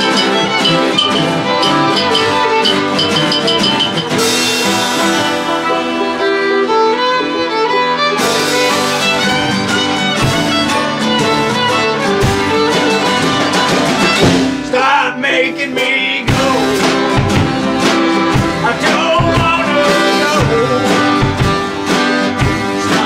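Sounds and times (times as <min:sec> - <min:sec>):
accordion: 0:00.0 - 0:14.8, 0:15.7 - 0:23.0
fiddle lead: 0:00.0 - 0:23.0
harmonica: 0:00.0 - 0:23.0
strummed acoustic guitar: 0:00.0 - 0:23.0.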